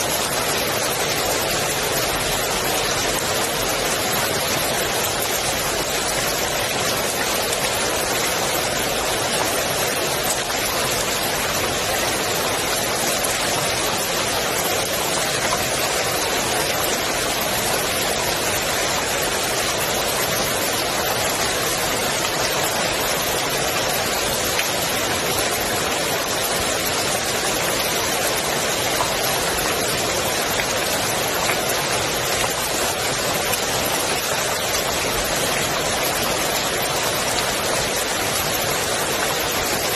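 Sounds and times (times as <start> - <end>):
rain falling on pool water: 0.0 - 39.9.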